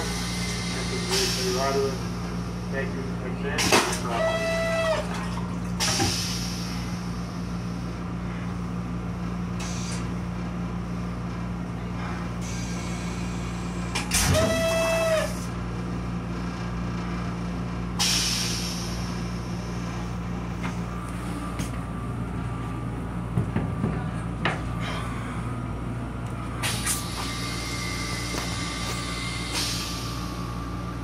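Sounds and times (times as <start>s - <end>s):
railcar hum and rumble: 0.0s - 31.0s.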